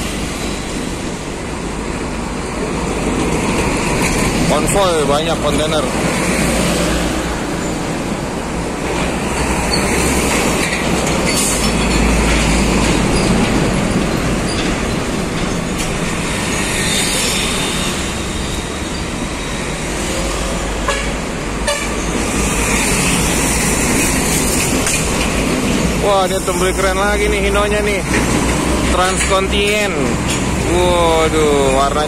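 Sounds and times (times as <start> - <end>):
heavy trucks driving past: 0.0 - 32.0.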